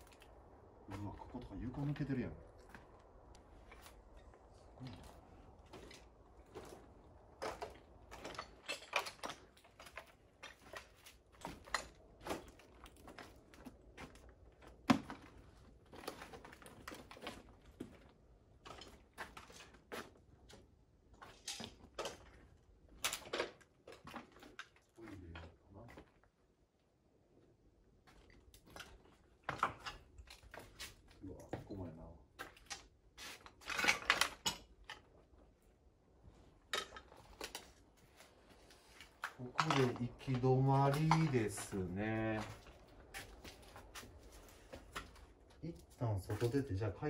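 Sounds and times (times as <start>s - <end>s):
footsteps crunching over rubble: 0.0s - 26.6s, 27.5s - 46.6s.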